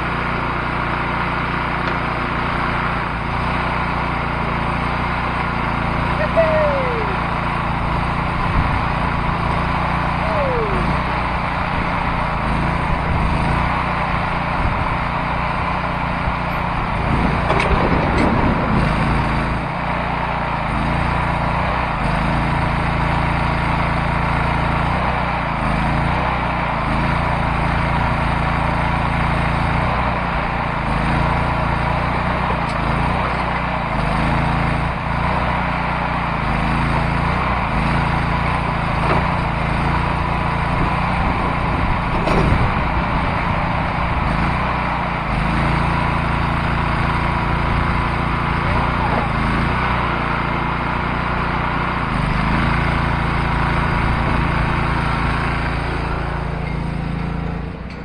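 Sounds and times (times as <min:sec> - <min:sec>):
backhoe engine running: 0:00.0 - 0:58.0.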